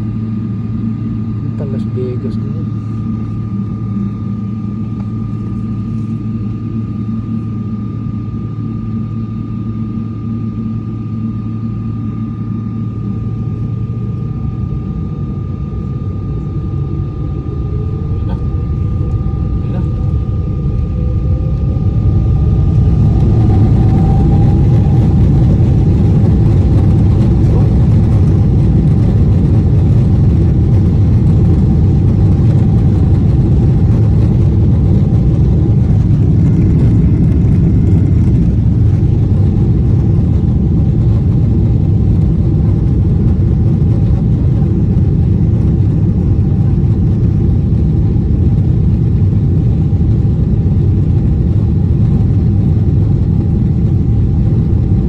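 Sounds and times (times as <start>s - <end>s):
faint engine whine: 0.0s - 55.0s
jet engines rumbling: 0.0s - 55.0s.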